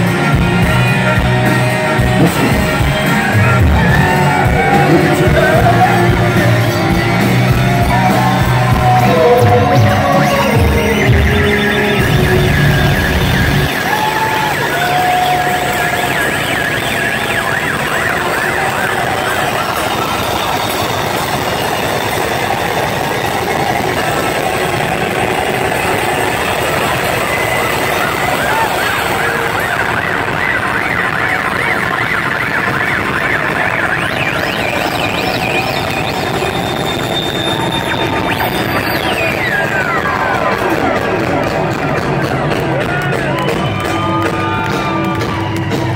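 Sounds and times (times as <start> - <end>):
bass and drums: 0.0 - 45.9
loud distorted rock band: 0.0 - 45.9
siren-like electronic warble: 1.4 - 45.9.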